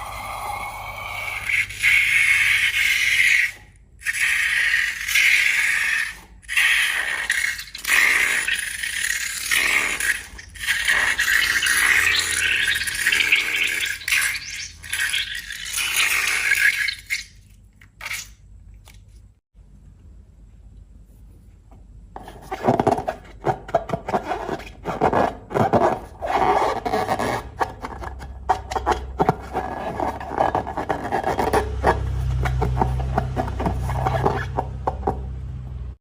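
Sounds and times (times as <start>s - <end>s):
slime scraping and rattling in bowl: 0.0s - 19.3s, 22.2s - 35.3s.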